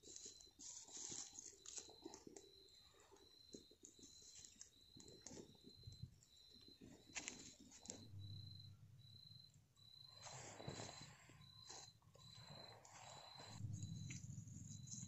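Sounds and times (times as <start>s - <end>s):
night insects chirping: 0.0s - 15.0s.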